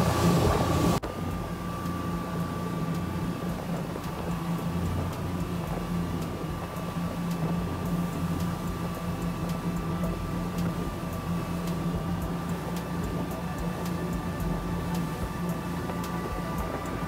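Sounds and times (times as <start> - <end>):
outboard motor droning: 0.0 - 17.0
water rushing past hull: 0.0 - 17.0.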